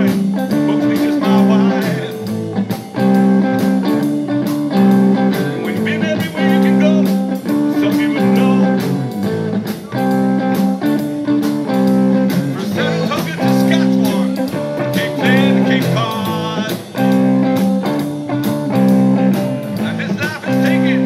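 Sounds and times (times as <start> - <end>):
bass guitar: 0.0 - 21.0
drums: 0.0 - 21.0
electric guitar: 0.0 - 21.0.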